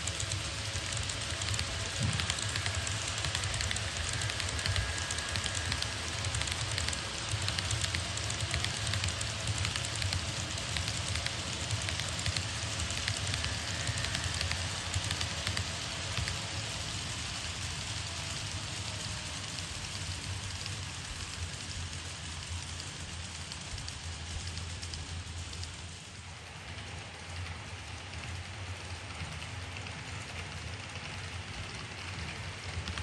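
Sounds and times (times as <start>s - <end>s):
low hum: 0.0s - 33.0s
model train wheels clicking on rails: 0.0s - 33.0s.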